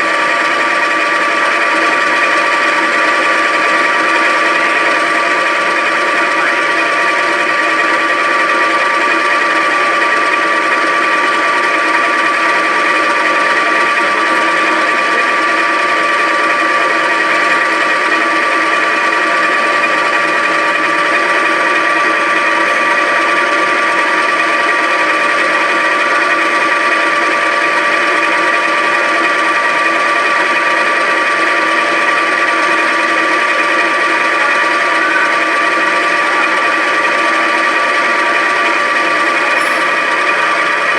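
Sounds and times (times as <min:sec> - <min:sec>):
metal lathe whine: 0:00.0 - 0:40.9.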